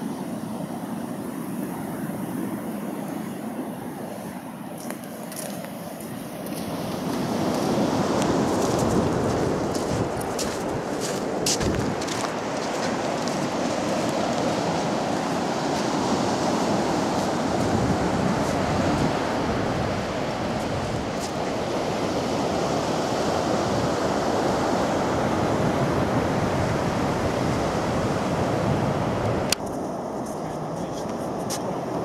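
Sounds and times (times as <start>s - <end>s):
surf washing up a beach: 0.0s - 32.0s.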